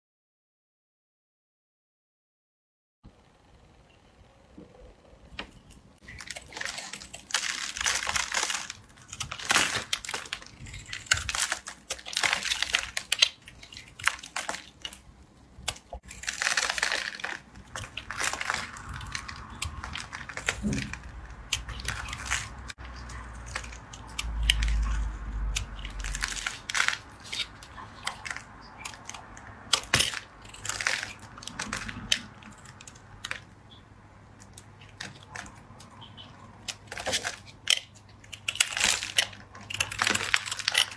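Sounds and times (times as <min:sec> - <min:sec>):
knife carving soap: 0:05.4 - 0:40.9.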